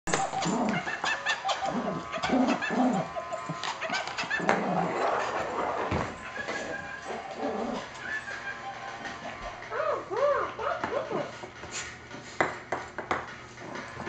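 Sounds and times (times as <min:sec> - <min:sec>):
dog whimpering: 0:00.1 - 0:11.4.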